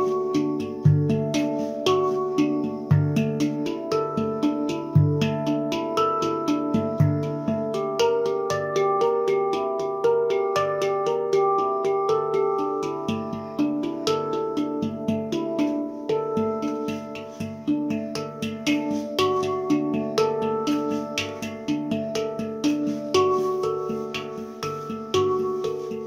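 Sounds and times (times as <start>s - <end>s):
handpan notes played by hand: 0.0s - 26.0s.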